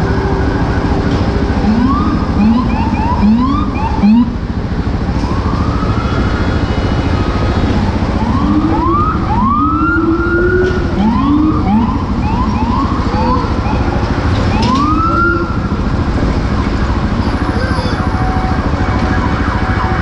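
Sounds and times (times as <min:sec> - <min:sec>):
emergency vehicle siren: 0:00.0 - 0:20.0.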